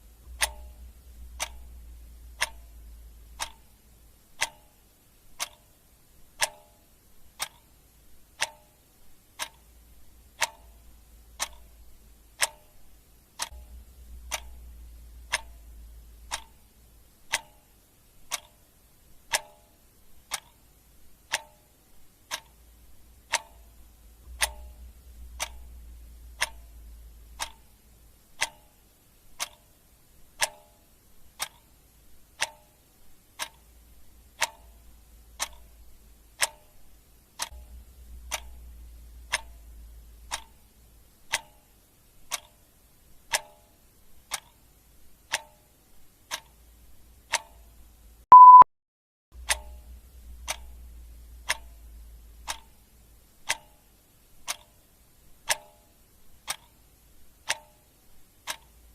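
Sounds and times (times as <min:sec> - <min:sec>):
clock ticking: 0:00.0 - 0:48.6, 0:49.4 - 0:58.9
faint low hum: 0:00.0 - 0:48.6, 0:49.4 - 0:58.9.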